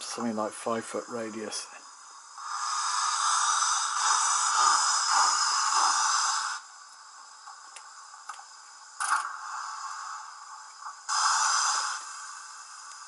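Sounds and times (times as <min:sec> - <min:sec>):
model locomotive steam hiss: 0:00.0 - 0:13.0.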